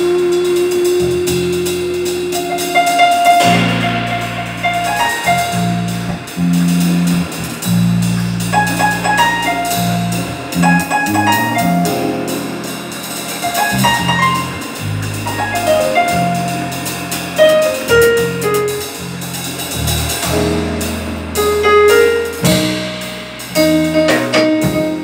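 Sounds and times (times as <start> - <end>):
bass notes: 0.0 - 25.0
drums and cymbals: 0.0 - 25.0
piano figures: 0.0 - 25.0.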